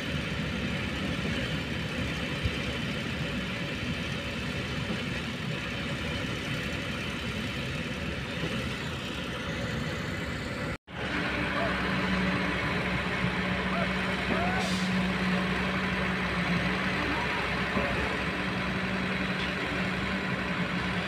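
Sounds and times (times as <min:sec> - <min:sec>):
diesel engines running: 0:00.0 - 0:21.0.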